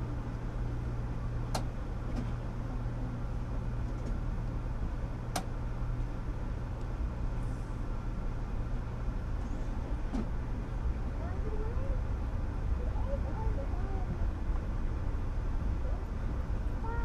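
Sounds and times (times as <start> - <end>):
train car hum and rumble: 0.0 - 17.0.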